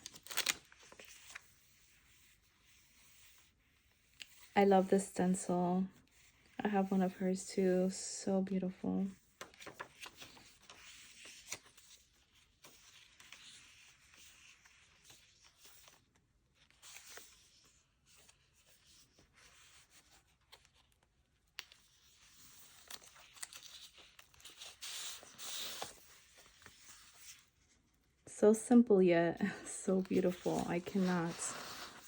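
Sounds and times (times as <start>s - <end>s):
paper pages rustling: 0.0s - 5.0s, 8.6s - 28.0s, 29.4s - 32.0s.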